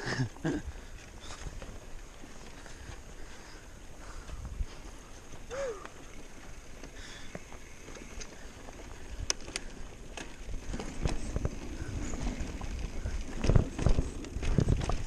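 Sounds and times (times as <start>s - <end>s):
bike rattling and clicking: 0.0s - 15.0s
bike tyres rumbling on dirt: 0.0s - 15.0s.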